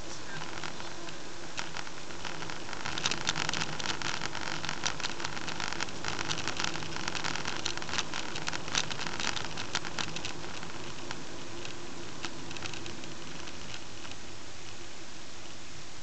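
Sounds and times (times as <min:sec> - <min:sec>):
small clicks: 0:00.0 - 0:14.8
road and engine noise in car: 0:00.0 - 0:16.0.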